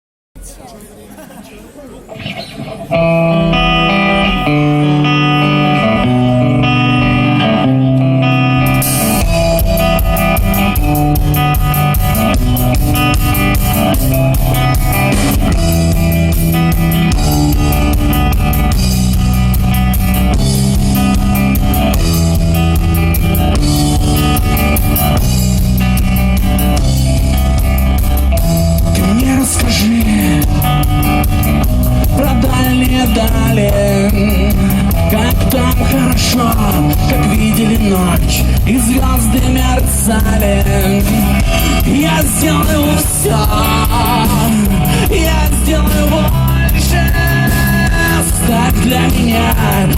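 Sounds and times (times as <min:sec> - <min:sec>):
guitar picking a melody: 0:02.0 - 0:49.9
rock band playing: 0:02.0 - 0:49.9
drum kit: 0:08.4 - 0:49.9.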